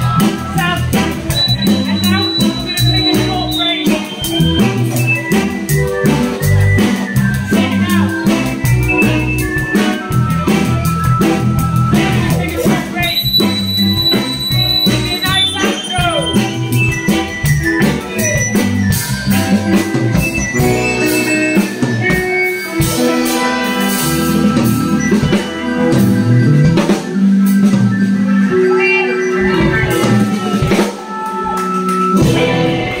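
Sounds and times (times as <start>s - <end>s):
drum kit with cymbals: 0.0s - 28.6s, 29.4s - 33.0s
walking bass line: 0.0s - 28.7s
electric keyboard chords: 0.0s - 33.0s.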